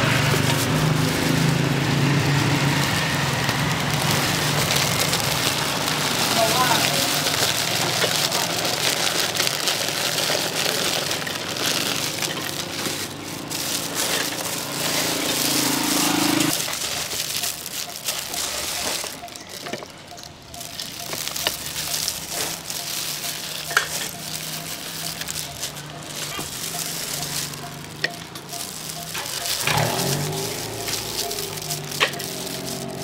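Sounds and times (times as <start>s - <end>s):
food sizzling and crackling: 0.0s - 33.0s.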